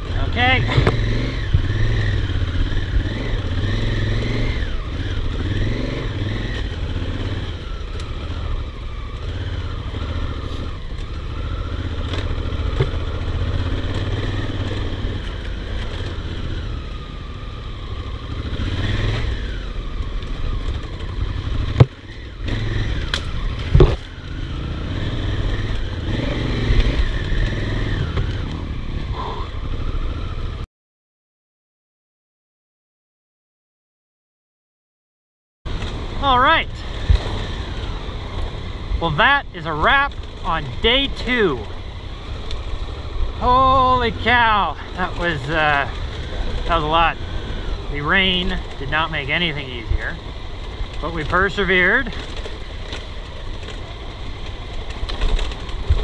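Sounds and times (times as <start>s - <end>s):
motorcycle engine running: 0.0s - 30.6s, 35.7s - 56.0s.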